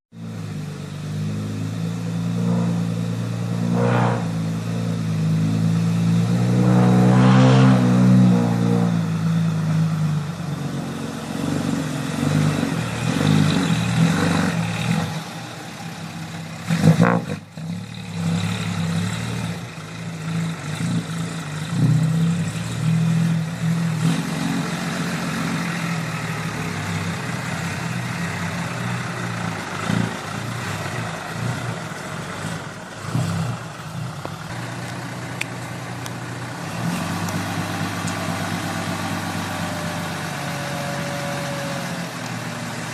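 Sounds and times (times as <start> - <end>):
dump truck engine revving: 0.2 - 42.9.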